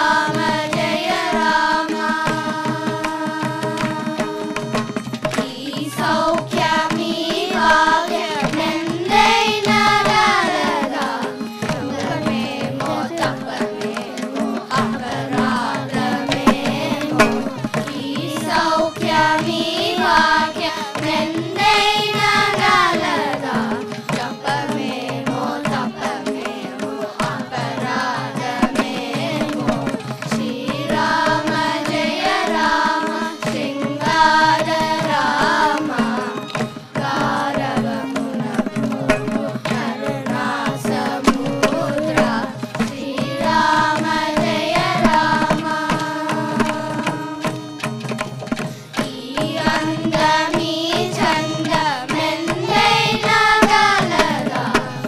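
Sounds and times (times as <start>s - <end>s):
children's choir singing: 0.0s - 55.0s
hand drums: 0.0s - 55.0s
violin: 0.0s - 55.0s.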